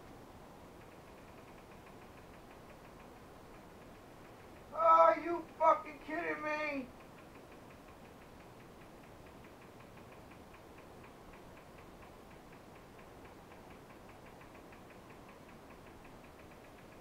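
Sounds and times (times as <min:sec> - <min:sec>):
low room hum: 0:00.0 - 0:17.0
rapid ticking: 0:00.0 - 0:17.0.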